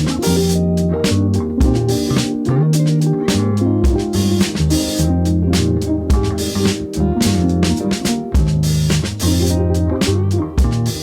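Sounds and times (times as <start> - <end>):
bass guitar: 0.0 - 11.0
plucked guitar: 0.0 - 11.0
steady drum beat: 0.0 - 11.0.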